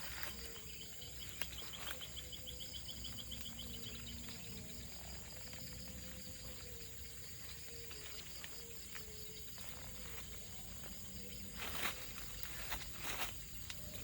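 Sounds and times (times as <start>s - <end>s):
insect chorus of crickets and cicadas: 0.0s - 14.0s.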